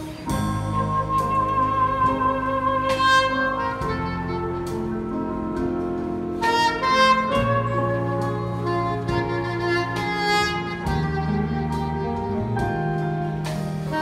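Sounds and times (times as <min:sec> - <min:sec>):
drums: 0:00.0 - 0:14.0
electric bass: 0:00.0 - 0:14.0
electric keyboard: 0:00.0 - 0:14.0
soprano saxophone melody: 0:00.0 - 0:14.0.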